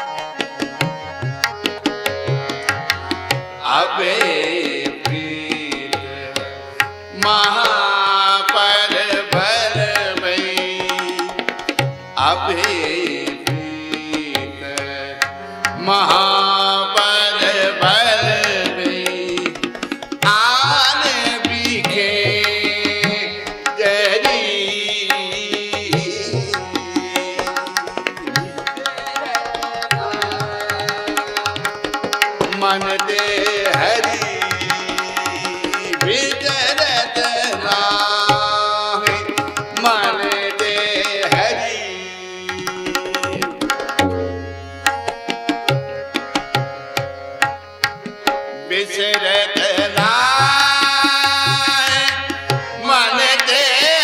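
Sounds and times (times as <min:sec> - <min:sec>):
harmonium melody: 0:00.0 - 0:54.0
tabla playing steady rhythm: 0:00.0 - 0:54.0
man singing ornamented phrases: 0:03.6 - 0:11.4, 0:12.2 - 0:43.6, 0:48.7 - 0:54.0.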